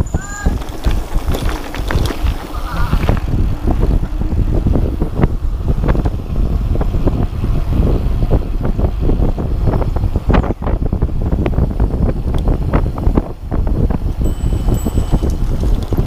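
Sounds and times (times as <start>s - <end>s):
bike rattling over rough ground: 0.0s - 16.0s
wind on microphone: 0.0s - 16.0s.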